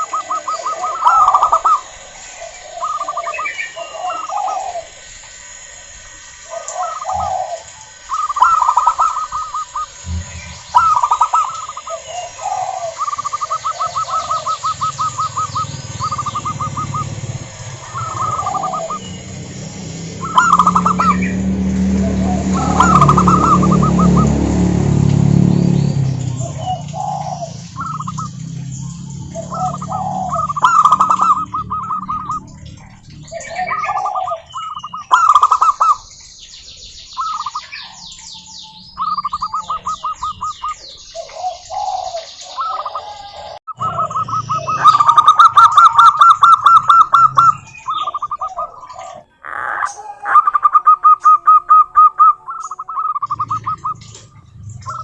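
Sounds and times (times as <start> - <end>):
doves cooing: 0.0 - 36.2, 37.2 - 55.0.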